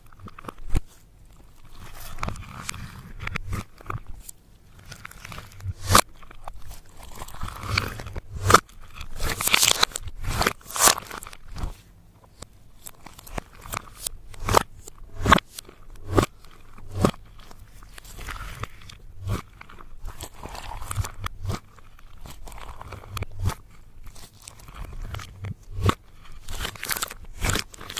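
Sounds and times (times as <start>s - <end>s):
slime crunching and crackling: 0.0s - 27.9s.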